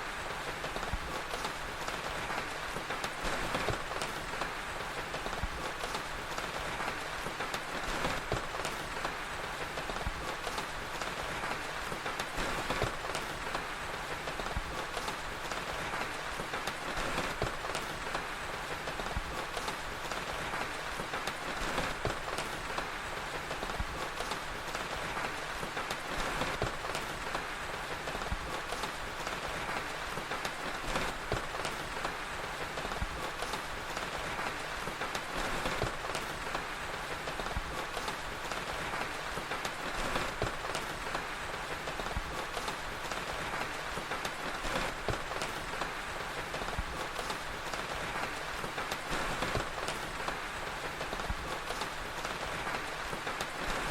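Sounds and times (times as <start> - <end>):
steady rain: 0.0 - 53.9
wood fire crackling: 0.0 - 53.9.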